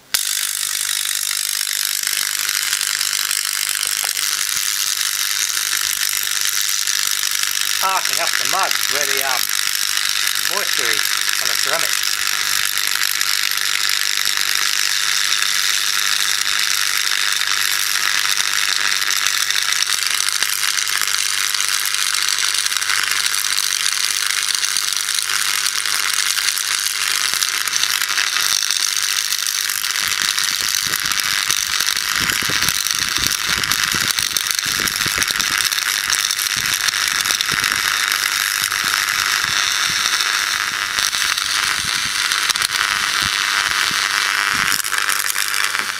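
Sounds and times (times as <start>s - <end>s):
electric arc crackling buzz: 0.0s - 45.9s.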